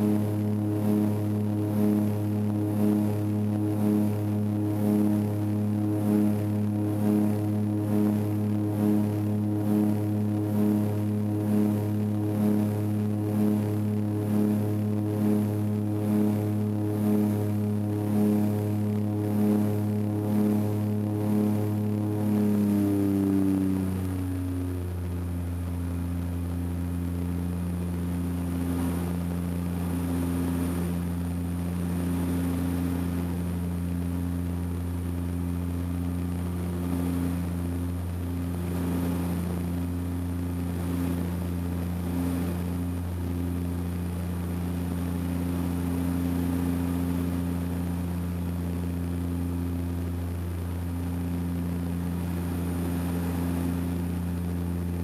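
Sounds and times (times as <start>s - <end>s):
propeller plane engine hum: 0.0s - 55.0s.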